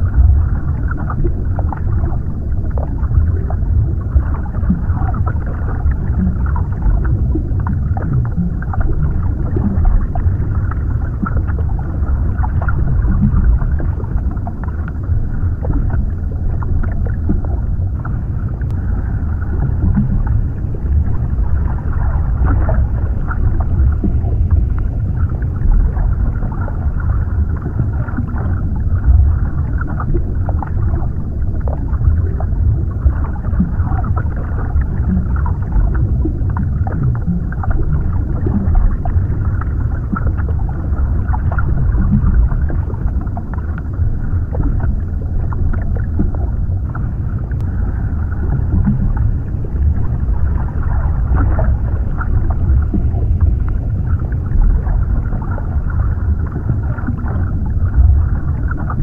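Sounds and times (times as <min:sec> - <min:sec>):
muffled underwater rumble: 0:00.0 - 0:59.0
underwater pops and gurgles: 0:00.0 - 0:59.0.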